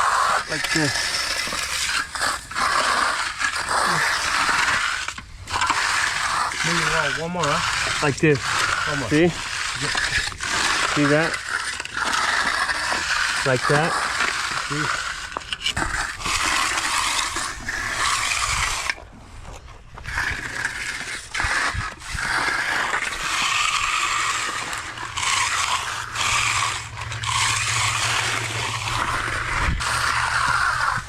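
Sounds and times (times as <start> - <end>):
tool scraping fresh concrete: 0.0 - 31.0.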